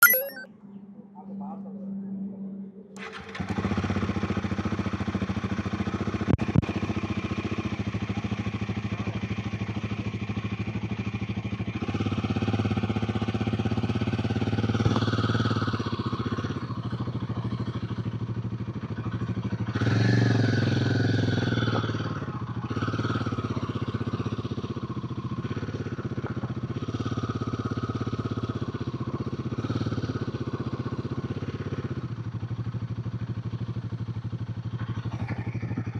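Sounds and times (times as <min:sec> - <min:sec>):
motorcycle engine running: 0:03.0 - 0:35.9.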